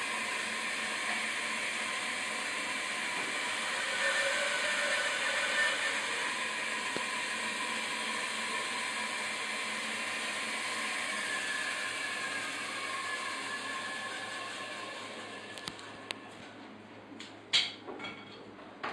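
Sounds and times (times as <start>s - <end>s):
woodworking machine motor whirring: 0.0s - 16.5s.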